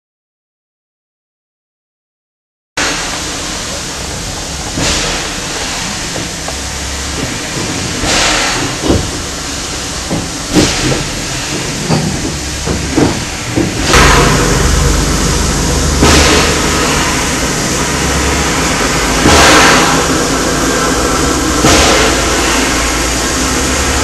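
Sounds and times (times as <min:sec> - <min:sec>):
locomotive running with low hum: 0:02.8 - 0:24.0
steam hissing: 0:02.8 - 0:24.0
locomotive clanks and knocks: 0:02.9 - 0:24.0.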